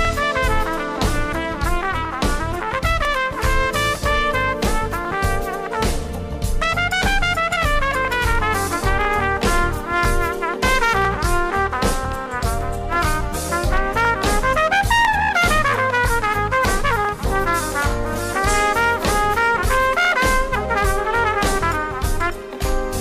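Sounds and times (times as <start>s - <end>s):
jazz band with drums bass keyboards: 0.0s - 23.0s
trumpet solo: 0.0s - 23.0s.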